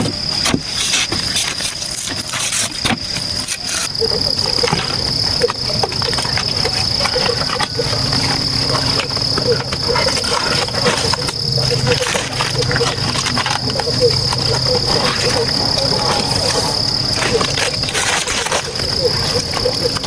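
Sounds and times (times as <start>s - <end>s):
insects droning: 0.0s - 20.0s
sharp clicks and crackles: 0.4s - 20.0s.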